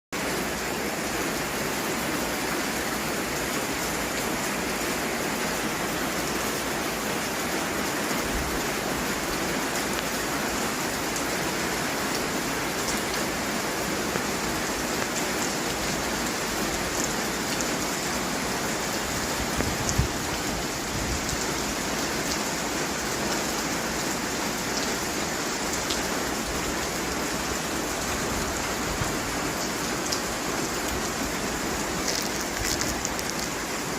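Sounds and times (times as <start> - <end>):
rain pattering: 0.2 - 33.9.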